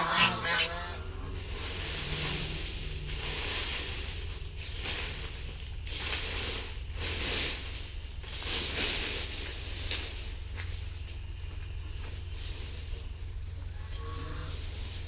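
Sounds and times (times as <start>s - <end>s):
steady low rumble: 0.0s - 15.0s
leaves raked across gravel: 0.1s - 15.0s.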